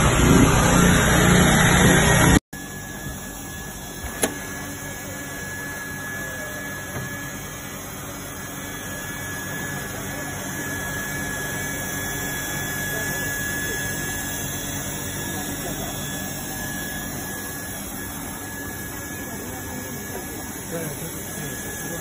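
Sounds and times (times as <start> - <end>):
high whine: 0.0 - 22.0
hot-air blower hissing: 0.0 - 22.0.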